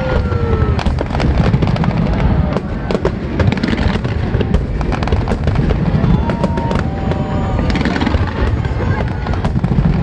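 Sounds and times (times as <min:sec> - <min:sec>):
firework bangs and crackles: 0:00.0 - 0:10.0.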